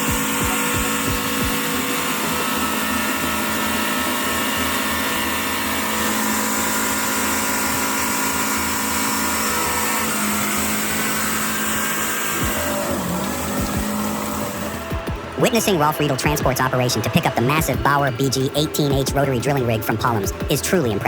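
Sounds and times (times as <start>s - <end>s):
heavy vehicle engine droning: 0.0s - 21.0s.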